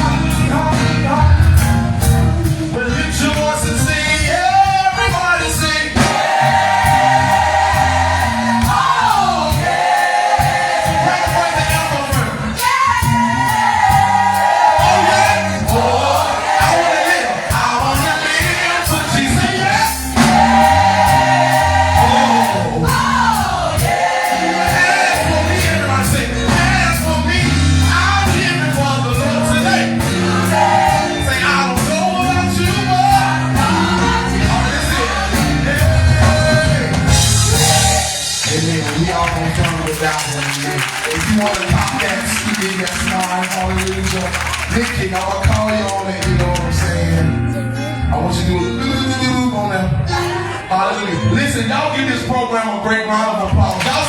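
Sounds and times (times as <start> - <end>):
gospel choir singing: 0.0 - 54.0
instrumental accompaniment with bass: 0.0 - 54.0.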